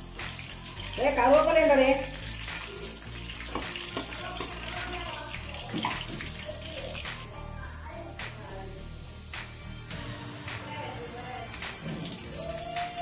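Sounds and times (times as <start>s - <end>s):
food deep-frying in hot oil: 0.0s - 10.0s, 11.4s - 13.0s.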